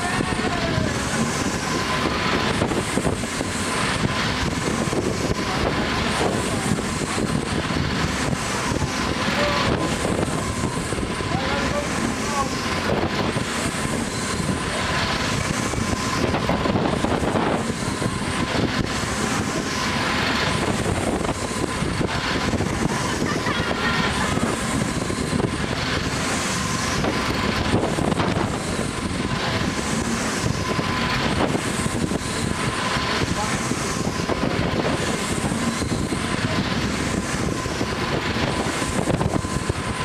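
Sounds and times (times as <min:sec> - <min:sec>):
spinning fairground ride: 0:00.0 - 0:40.0
wind on microphone: 0:00.0 - 0:40.0.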